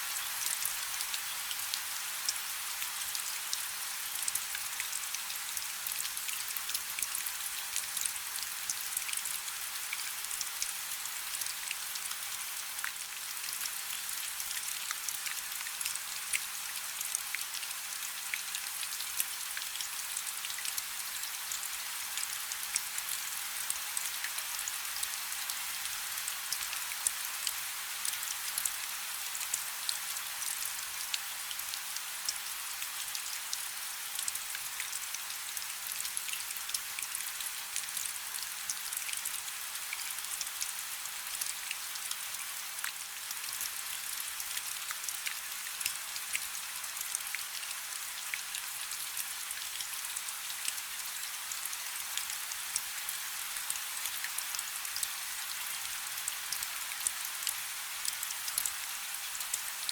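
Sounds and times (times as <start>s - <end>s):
rain falling on a river: 0.0s - 59.9s.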